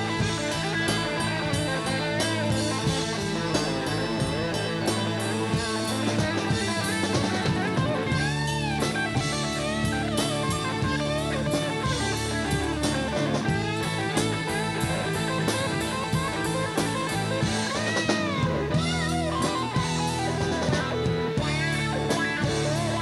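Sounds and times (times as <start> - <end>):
drum kit: 0.0 - 23.0
electric guitar lead: 0.0 - 23.0.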